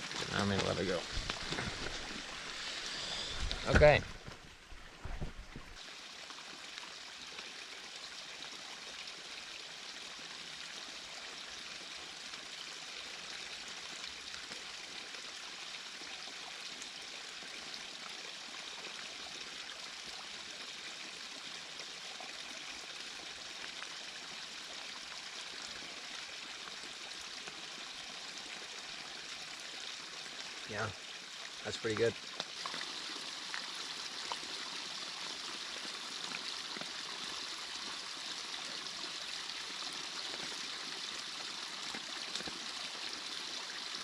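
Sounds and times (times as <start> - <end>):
creek water running over rocks: 0.0 - 44.0.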